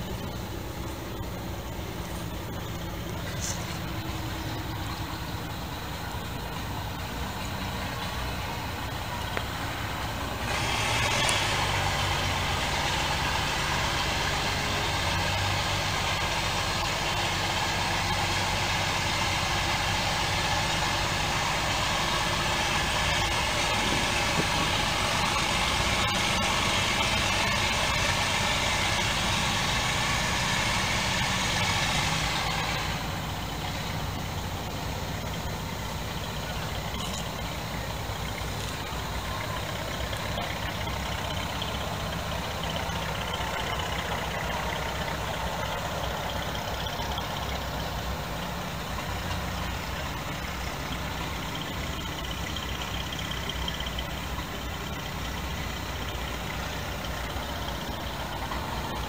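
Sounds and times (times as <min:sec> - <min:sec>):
rushing noise: 0:00.0 - 0:54.2
engine idling: 0:00.0 - 0:59.0.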